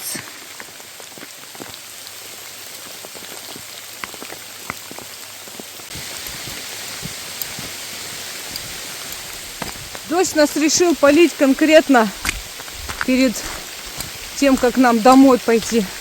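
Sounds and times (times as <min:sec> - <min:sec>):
heavy rain pouring: 0:00.0 - 0:16.0
raindrops hitting close by: 0:00.0 - 0:16.0.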